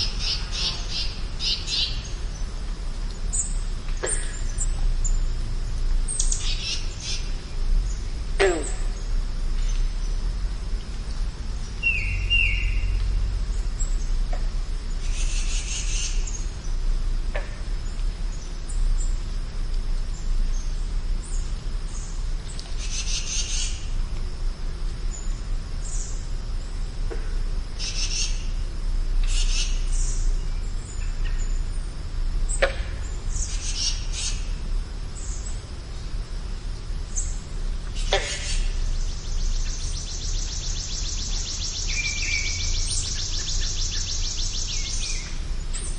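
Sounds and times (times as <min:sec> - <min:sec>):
songbirds singing: 0:00.0 - 0:24.0, 0:24.8 - 0:45.9
steady low rumble: 0:00.0 - 0:45.9.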